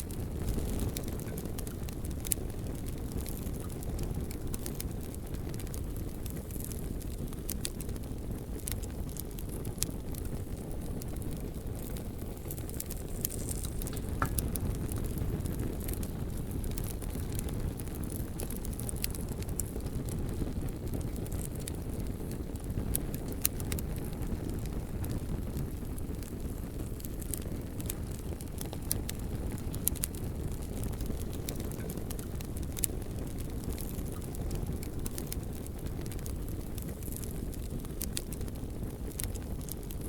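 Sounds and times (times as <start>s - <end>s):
bonfire flames rumbling: 0.0s - 40.0s
burning logs crackling and popping: 0.0s - 40.0s.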